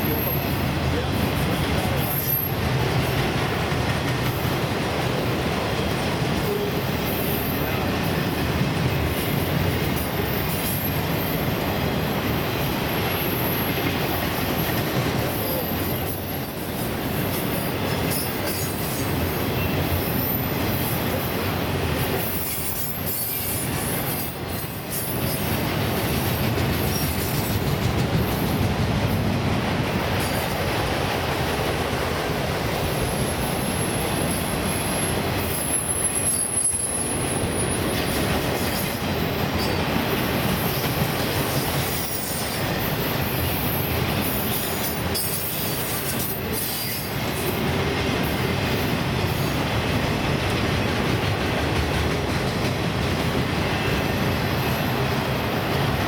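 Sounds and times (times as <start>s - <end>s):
freight cars rolling on rails: 0.0s - 56.0s.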